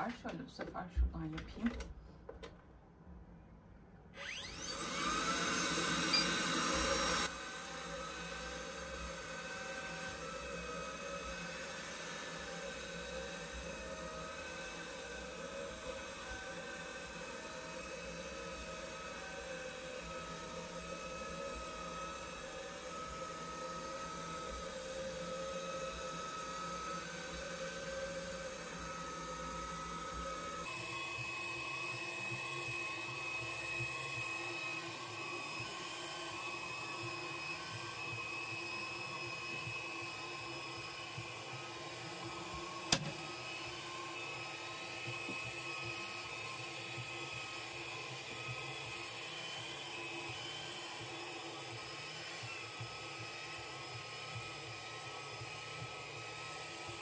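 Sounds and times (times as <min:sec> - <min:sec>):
suction fan motor whine: 0:04.1 - 0:57.0.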